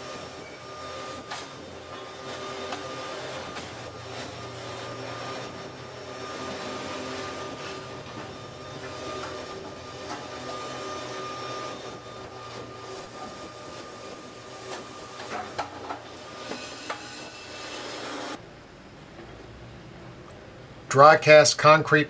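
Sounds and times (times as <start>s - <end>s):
machinery humming with high whine: 0.0s - 21.2s.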